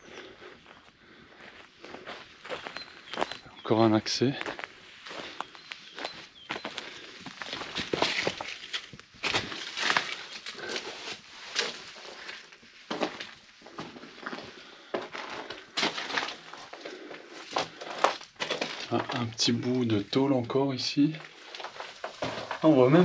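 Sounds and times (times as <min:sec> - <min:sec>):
footsteps crunching on leaves and stones: 0:00.0 - 0:23.0.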